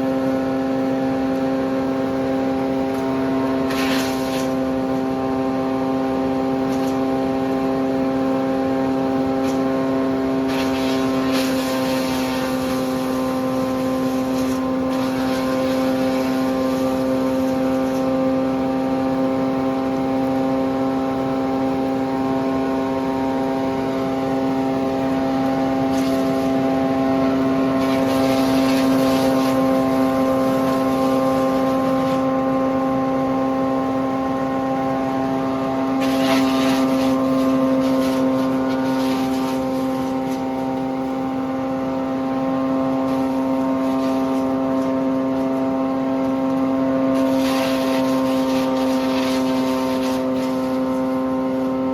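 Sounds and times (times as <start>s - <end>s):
diesel engine humming: 0.0s - 47.4s.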